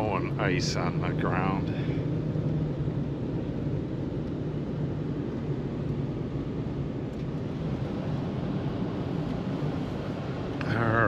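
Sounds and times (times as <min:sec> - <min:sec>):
pickup truck engine and road drone: 0:00.0 - 0:11.0.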